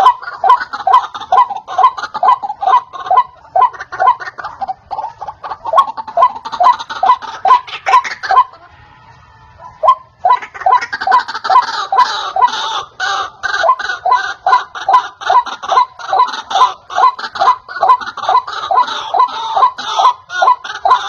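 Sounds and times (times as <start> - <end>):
bird calling harsh repeated notes: 0.0 - 8.7, 9.5 - 21.0.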